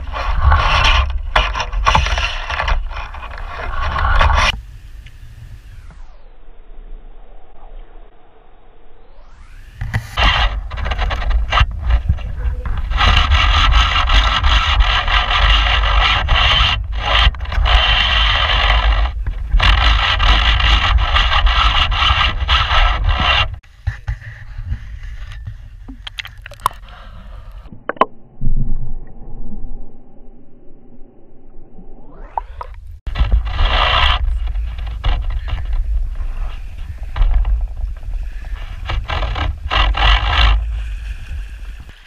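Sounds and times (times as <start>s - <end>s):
wind rumble on microphone: 0.0s - 42.0s.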